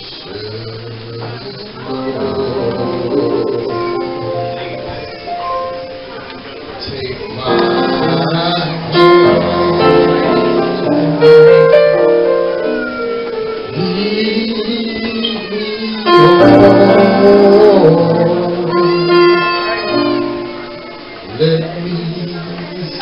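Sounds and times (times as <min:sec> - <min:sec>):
man singing into microphone: 0:00.0 - 0:05.3, 0:06.5 - 0:23.0
keyboard accompaniment: 0:00.0 - 0:23.0.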